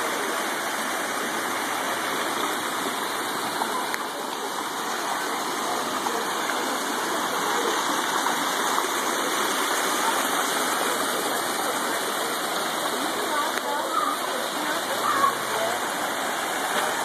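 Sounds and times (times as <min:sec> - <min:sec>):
water rushing down stone steps: 0:00.0 - 0:17.0.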